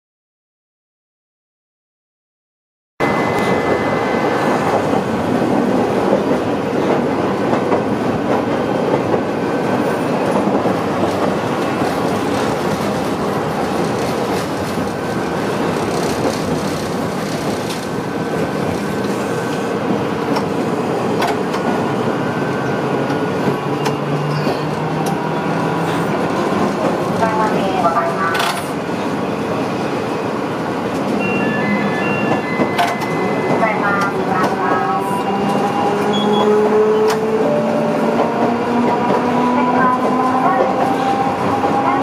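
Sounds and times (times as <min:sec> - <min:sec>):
tram wheels rumbling: 0:03.0 - 0:42.0.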